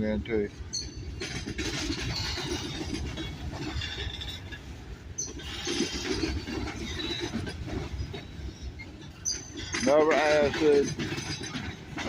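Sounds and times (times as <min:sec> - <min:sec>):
train cars clanking: 0:00.0 - 0:12.0
train wheels rumbling on rail: 0:00.0 - 0:12.0.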